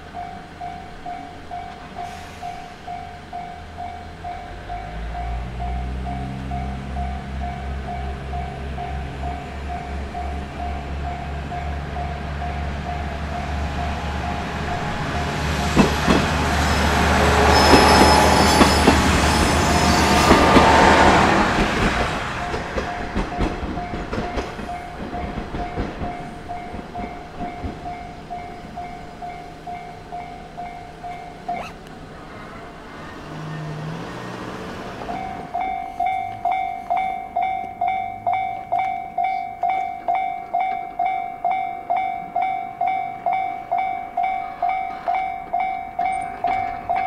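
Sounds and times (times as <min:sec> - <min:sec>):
level-crossing warning bell: 0:00.0 - 0:21.5, 0:22.2 - 0:31.8, 0:35.0 - 0:47.0
train passing: 0:00.0 - 0:47.0
wheels clacking over rail joints: 0:04.1 - 0:42.5, 0:43.2 - 0:47.0.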